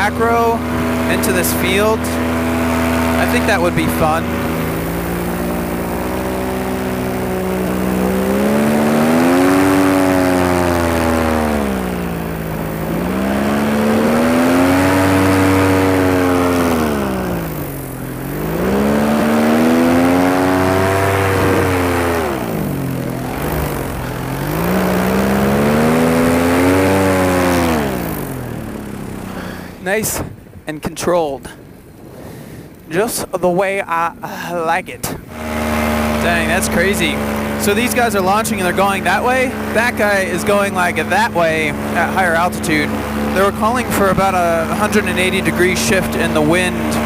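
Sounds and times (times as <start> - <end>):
paramotor engine running: 0.0 - 47.0.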